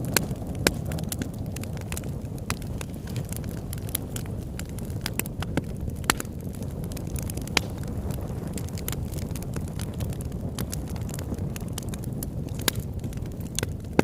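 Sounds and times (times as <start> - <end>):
burning wood popping: 0.0 - 14.0
campfire crackling: 0.0 - 14.0.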